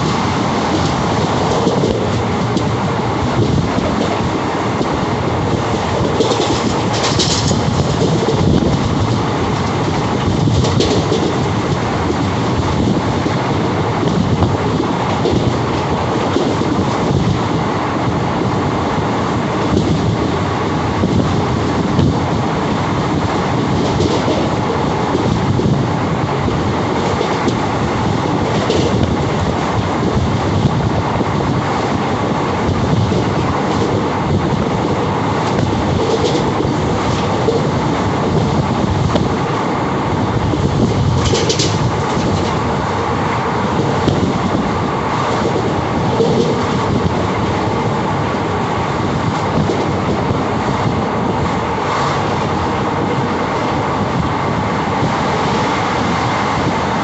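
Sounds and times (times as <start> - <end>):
train rumble and rattle: 0.0 - 57.0.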